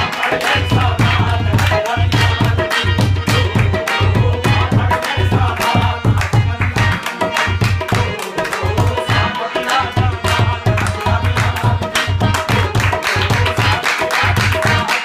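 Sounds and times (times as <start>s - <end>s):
hand claps: 0.0s - 9.0s, 9.7s - 15.0s
harmonium chords: 0.0s - 15.0s
tabla drumming: 0.0s - 15.0s.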